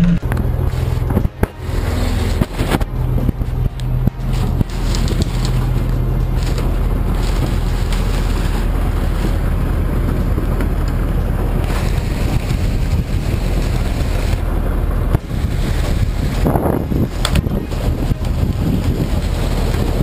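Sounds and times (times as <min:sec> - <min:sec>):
boat engine humming: 0:00.0 - 0:20.0
rushing water: 0:00.0 - 0:20.0
wind buffeting microphone: 0:00.0 - 0:20.0.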